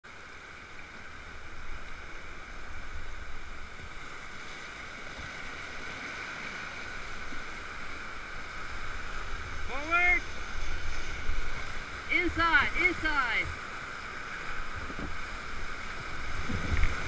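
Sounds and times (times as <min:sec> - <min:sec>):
whitewater rapids rushing: 0:00.1 - 0:17.0.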